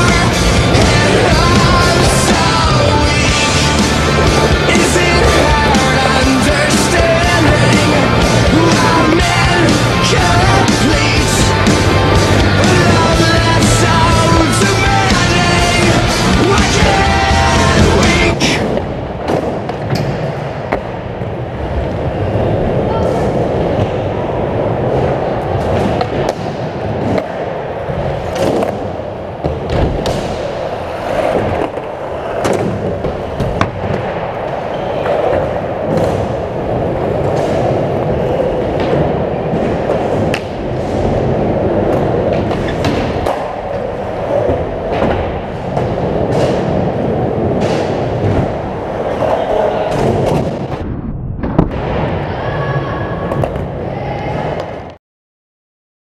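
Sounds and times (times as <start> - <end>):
skateboard wheels rolling: 0.0 - 55.0.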